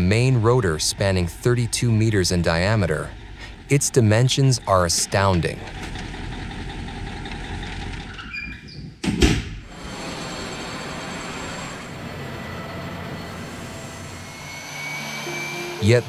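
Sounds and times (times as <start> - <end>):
low machinery hum: 0.0 - 8.3, 9.7 - 16.0.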